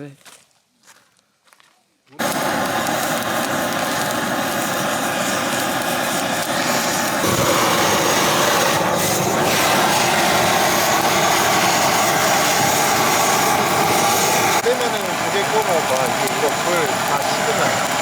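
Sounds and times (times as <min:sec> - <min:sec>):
blowtorch hissing: 0:02.2 - 0:18.0.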